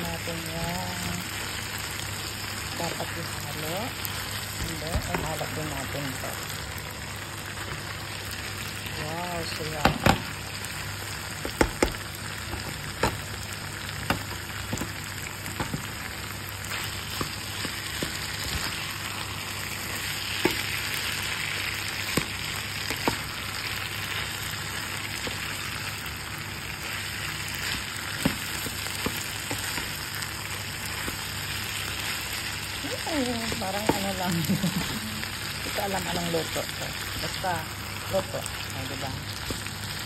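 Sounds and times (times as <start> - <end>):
food sizzling in a frying pan: 0.0 - 40.0.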